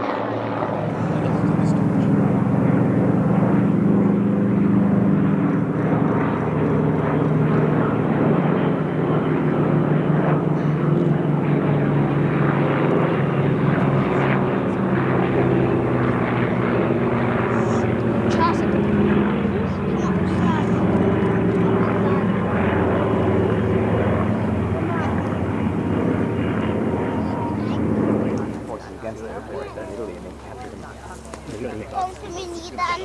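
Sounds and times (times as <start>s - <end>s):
piston engine and propeller running: 0.0s - 33.0s.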